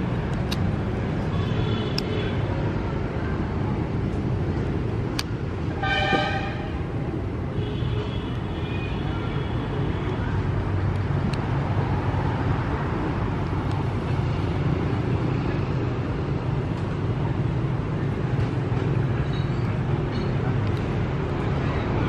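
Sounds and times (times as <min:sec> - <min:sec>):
low engine-like hum: 0:00.0 - 0:22.0
outdoor street noise: 0:00.0 - 0:22.0.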